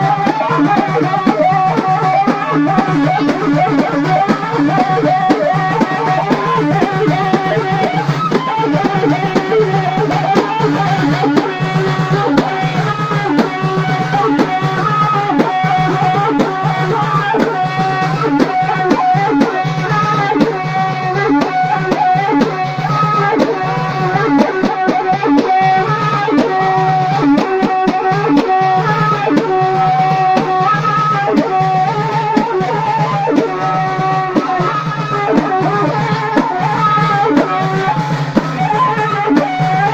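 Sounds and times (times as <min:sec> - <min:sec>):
drums beating steady rhythm: 0:00.0 - 0:39.9
folk dance music: 0:00.0 - 0:39.9.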